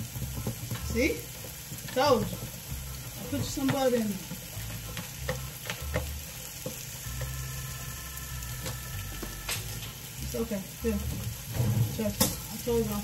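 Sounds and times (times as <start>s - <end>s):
sausage sizzling in a pan: 0.0s - 13.0s.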